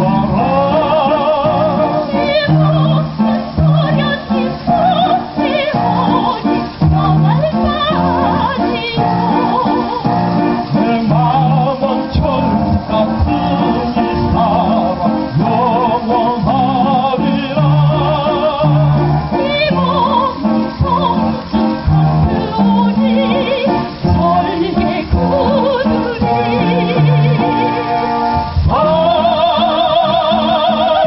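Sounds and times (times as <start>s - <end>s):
classical duet singing: 0.0s - 31.0s
instrumental accompaniment: 0.0s - 31.0s.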